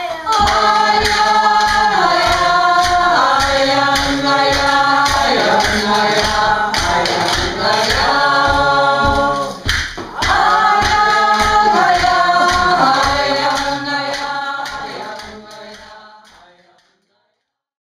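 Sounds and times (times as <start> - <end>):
steady drum beat: 0.0 - 16.0
group of voices singing: 0.0 - 16.8.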